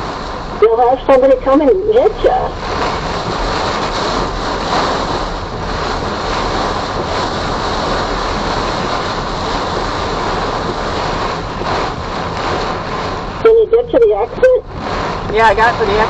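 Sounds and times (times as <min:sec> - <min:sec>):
gusting wind: 0:00.0 - 0:16.0
heavy rain beating on a vehicle: 0:00.0 - 0:16.0.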